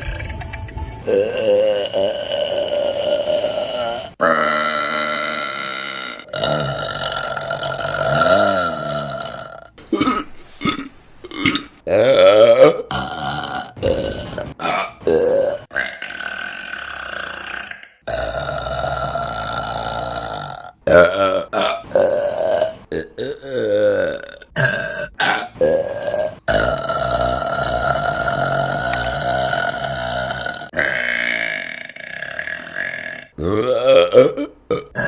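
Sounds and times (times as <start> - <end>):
woman burping: 1.0 - 35.0.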